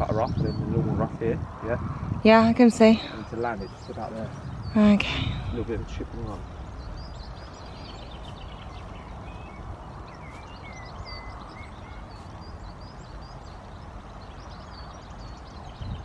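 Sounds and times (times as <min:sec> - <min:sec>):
low outdoor background rumble: 0:00.0 - 0:16.0
small birds chirping: 0:00.0 - 0:16.0.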